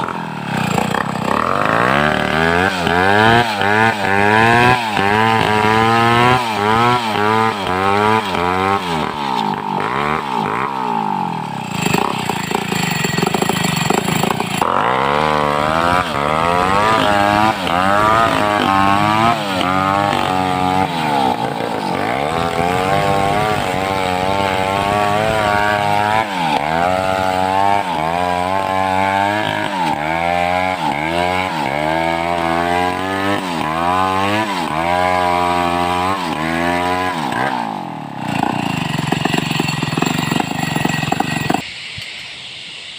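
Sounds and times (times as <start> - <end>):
chainsaw cutting log: 0.0 - 41.6.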